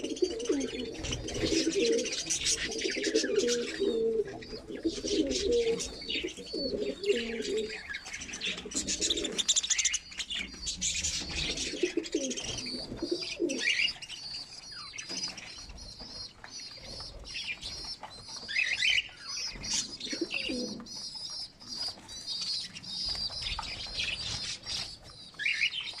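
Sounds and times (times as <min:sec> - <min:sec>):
parakeets chattering and calling: 0:00.0 - 0:26.0.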